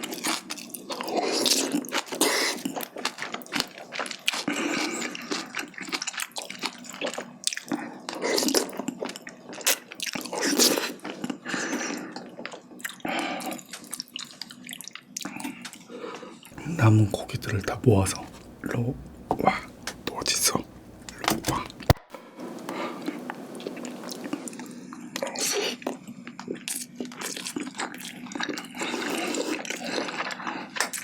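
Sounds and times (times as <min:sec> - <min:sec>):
wet chewing and mouth sounds: 0:00.2 - 0:15.3, 0:16.6 - 0:24.5, 0:26.5 - 0:31.0.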